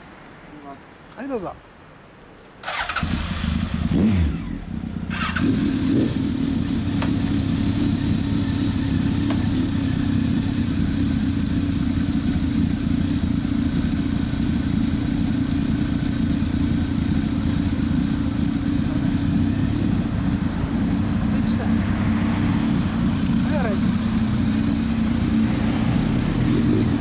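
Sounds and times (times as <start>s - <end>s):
motorcycle engines idling: 2.7s - 27.0s.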